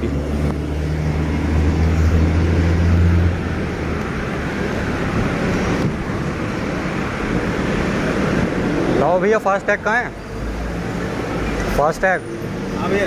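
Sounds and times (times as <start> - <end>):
road traffic noise: 0.0 - 13.0
vehicle engine humming: 0.0 - 13.0.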